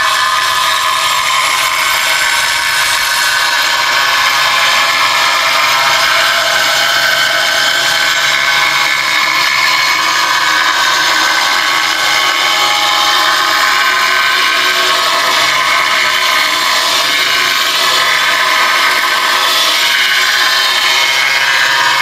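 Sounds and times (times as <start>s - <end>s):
angle grinder cutting tile: 0.0s - 22.0s.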